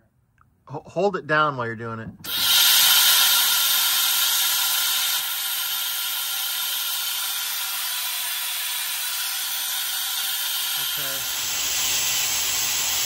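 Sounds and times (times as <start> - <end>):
compressed air hissing from valve: 2.2 - 13.0.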